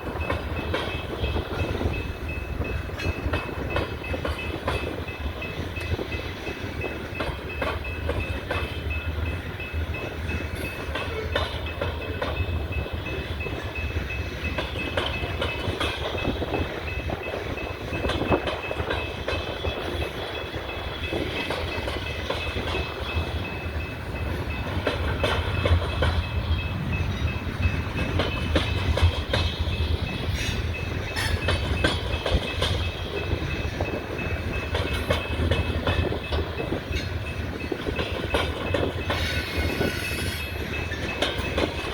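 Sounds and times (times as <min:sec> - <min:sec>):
freight train rumbling past: 0:00.0 - 0:41.9
wheels clicking over rail joints: 0:00.0 - 0:41.9.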